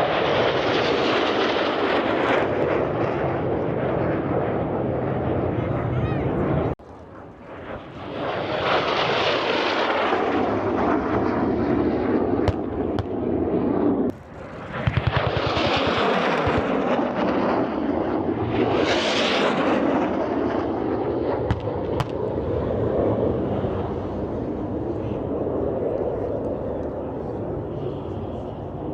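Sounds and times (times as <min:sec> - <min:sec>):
jet aircraft flying past: 0:00.0 - 0:28.9.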